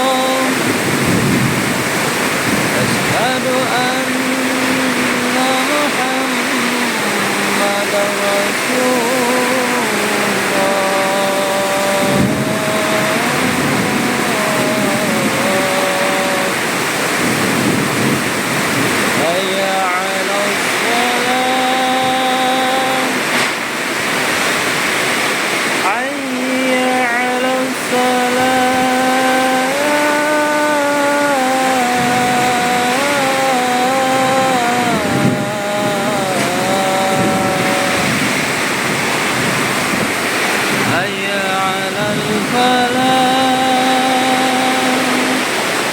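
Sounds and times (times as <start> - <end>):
constant rushing noise: 0.0 - 45.9
heavy rain: 0.0 - 45.9
wind: 0.0 - 45.9.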